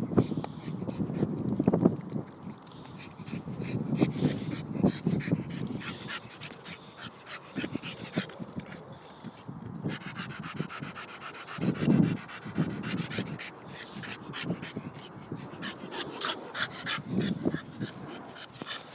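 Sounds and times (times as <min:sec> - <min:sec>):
dog panting hard: 0:00.0 - 0:18.9
low dog noise: 0:00.0 - 0:18.9.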